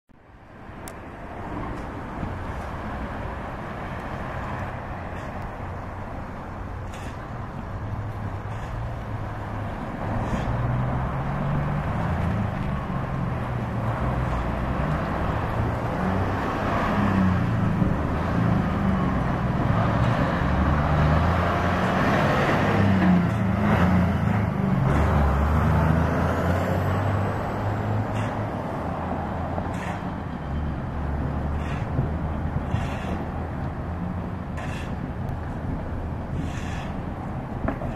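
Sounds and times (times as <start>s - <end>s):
diesel dump truck driving past: 1.2s - 37.9s.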